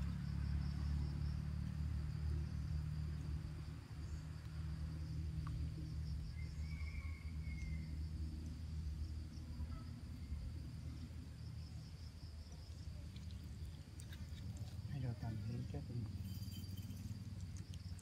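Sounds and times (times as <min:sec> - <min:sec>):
insects chirring: 0:00.0 - 0:18.0
low steady rumble: 0:00.0 - 0:18.0.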